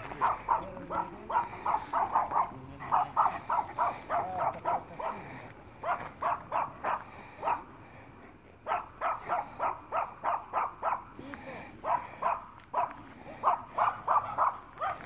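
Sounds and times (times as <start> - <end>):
dog barking rapidly: 0.0 - 7.7, 8.6 - 11.2, 11.8 - 15.0.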